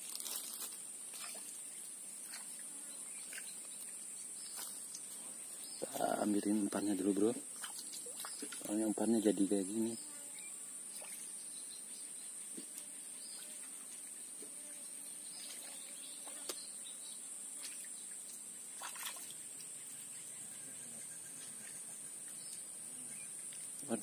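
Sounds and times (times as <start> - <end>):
faint bird chirps: 2.3 - 24.0.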